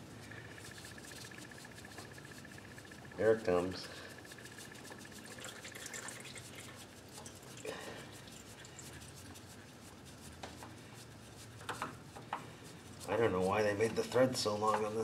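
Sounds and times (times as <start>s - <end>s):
oil filter rubbing: 0.0s - 15.0s.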